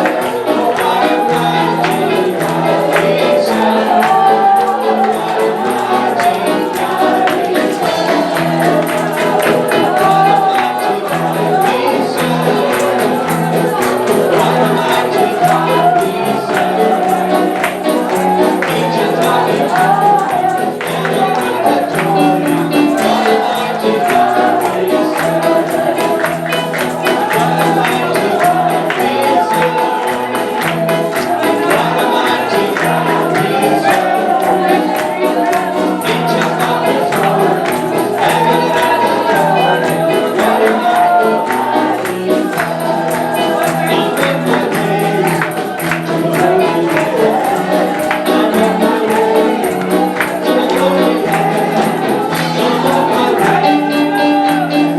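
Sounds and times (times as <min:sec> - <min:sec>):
tambourine shaking: 0:00.0 - 0:54.9
voices singing together: 0:00.0 - 0:54.9.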